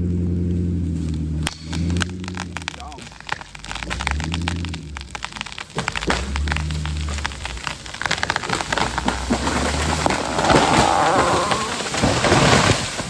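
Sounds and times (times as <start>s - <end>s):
tree crown crashing to ground: 0.0s - 13.0s
wood cracking and snapping: 0.0s - 13.0s.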